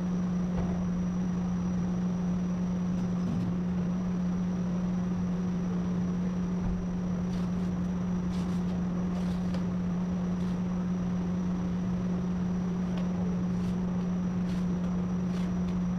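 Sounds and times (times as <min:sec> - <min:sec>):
steady machine hum: 0:00.0 - 0:15.9.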